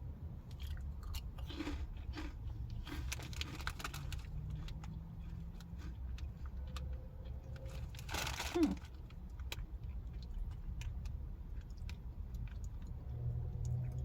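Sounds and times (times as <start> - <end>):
low steady hum: 0.0 - 14.0
crunchy snack being chewed: 0.5 - 12.9.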